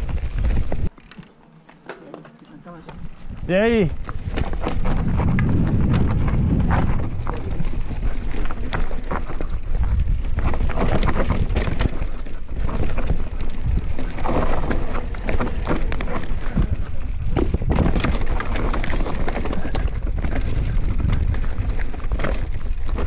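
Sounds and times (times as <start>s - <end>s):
bike tyres rolling over dirt: 0.0s - 23.0s
bike chain rattling: 2.0s - 23.0s
wind buffeting microphone: 2.9s - 23.0s.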